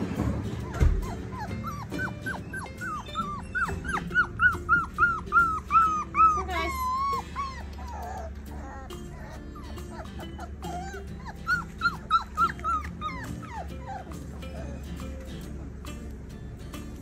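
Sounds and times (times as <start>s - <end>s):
puppy whining: 0.0s - 17.0s.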